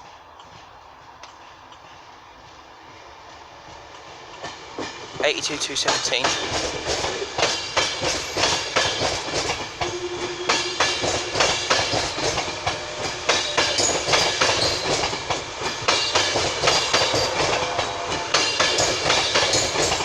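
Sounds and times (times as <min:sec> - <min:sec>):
train wheels clickety-clack: 0:00.0 - 0:20.0.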